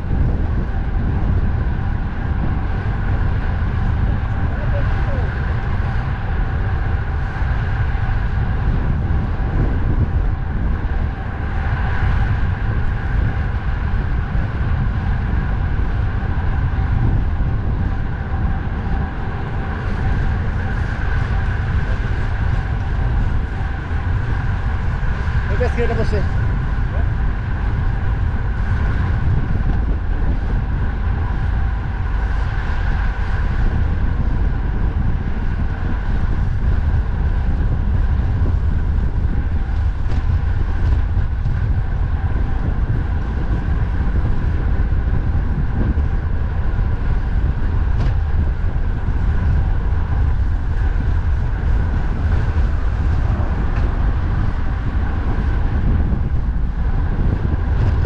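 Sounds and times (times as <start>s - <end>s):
expressway traffic: 0.0s - 58.0s
wind rumble on microphone: 0.0s - 58.0s.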